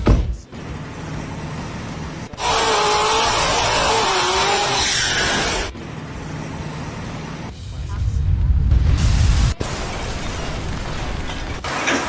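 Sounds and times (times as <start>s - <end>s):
machine rushing with whine: 0.5s - 12.0s.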